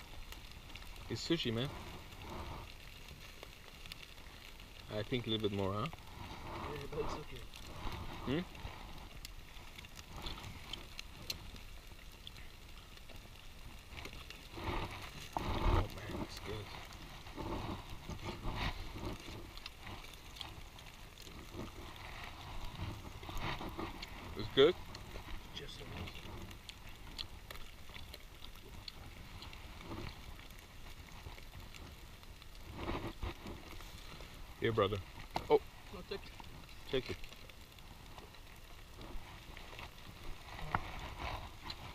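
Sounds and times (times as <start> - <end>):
aluminium foil crackling: 0.0 - 41.9
wind rumble on microphone: 0.0 - 41.9.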